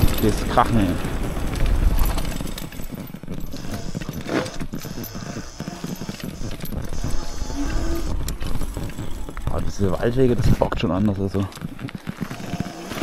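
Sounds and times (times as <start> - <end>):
bike rattling over bumps: 0.0 - 13.0
tyre rumble on dirt trail: 0.0 - 13.0.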